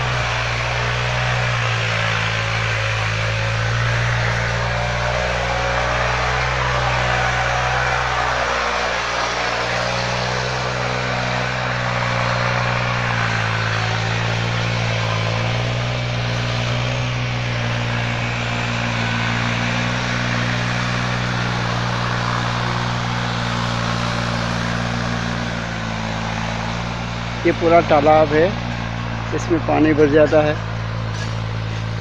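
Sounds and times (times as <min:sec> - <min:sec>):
engine running steadily: 0:00.0 - 0:32.0.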